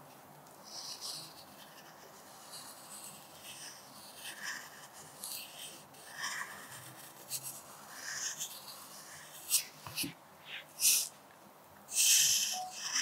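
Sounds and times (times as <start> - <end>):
pencil scratching on paper: 0.6 - 11.1, 11.9 - 13.0.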